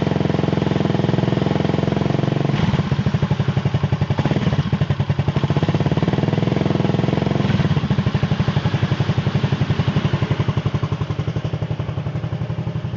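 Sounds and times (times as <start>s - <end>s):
scooter engine running at low revs: 0.0s - 12.9s.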